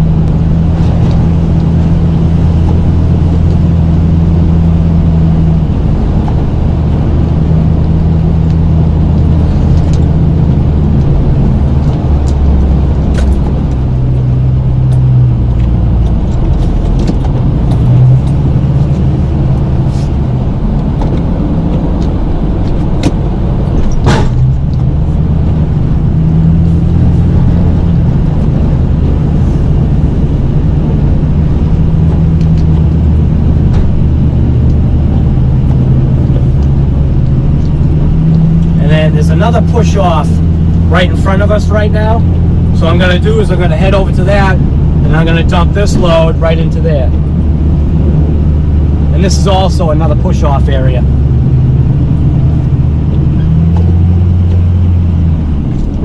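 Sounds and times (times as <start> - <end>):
truck engine under load: 0.0 - 56.0.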